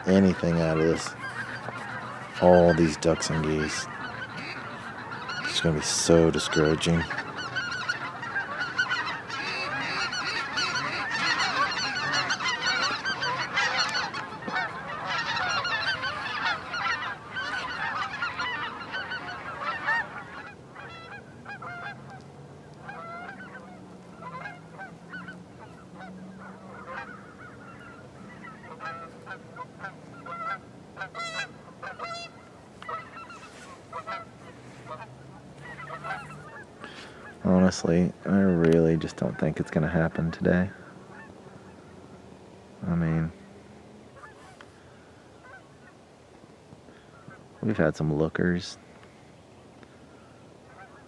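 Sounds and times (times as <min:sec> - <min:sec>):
flock of geese honking: 0:00.0 - 0:51.0.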